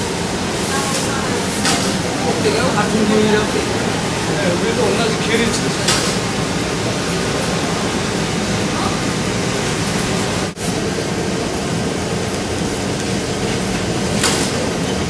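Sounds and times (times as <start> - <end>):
industrial sewing machines running: 0.0 - 15.0.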